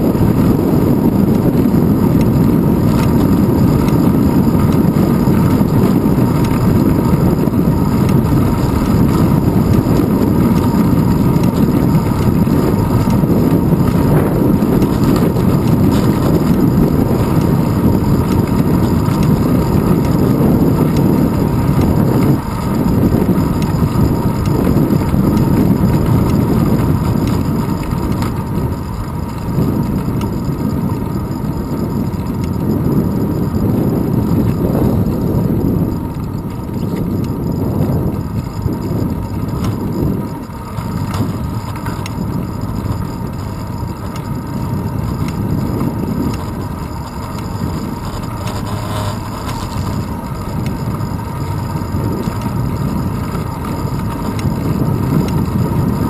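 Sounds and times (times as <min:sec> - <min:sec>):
bicycle tyre and road noise: 0:00.0 - 0:56.0
wind rumbling on microphone: 0:00.0 - 0:56.0.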